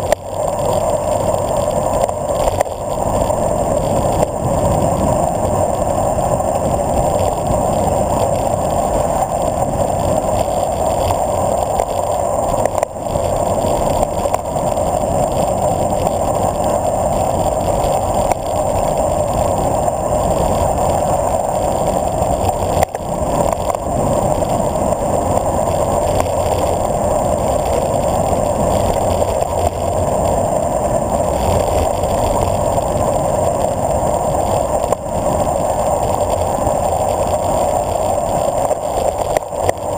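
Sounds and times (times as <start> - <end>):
bicycle tyre noise: 0.0 - 39.9.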